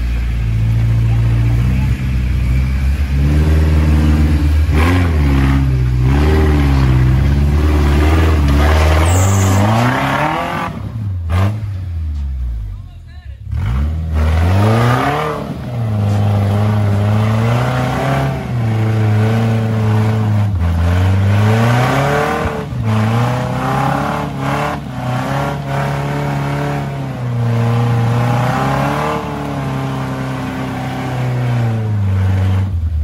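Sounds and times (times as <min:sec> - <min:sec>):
truck engine revving hard: 0:00.0 - 0:11.9, 0:13.5 - 0:33.0.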